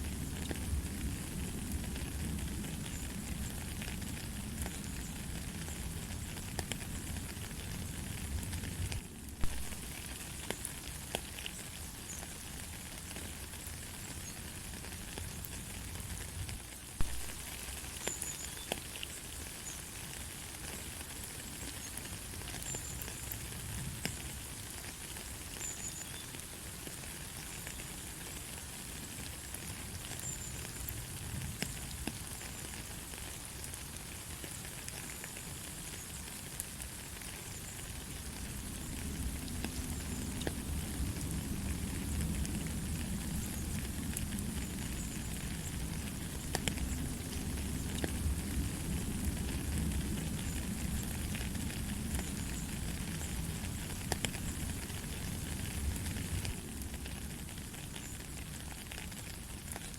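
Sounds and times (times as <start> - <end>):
light rain hissing: 0.0 - 59.9
sharp drips and ticks: 0.1 - 59.9.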